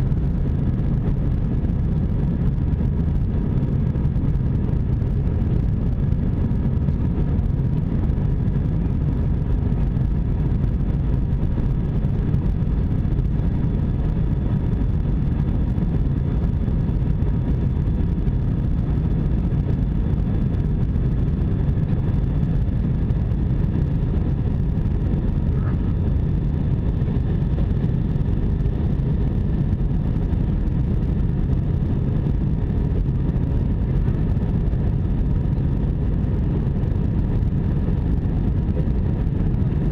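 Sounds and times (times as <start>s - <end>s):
airplane engines rumbling in cabin: 0.0s - 39.9s.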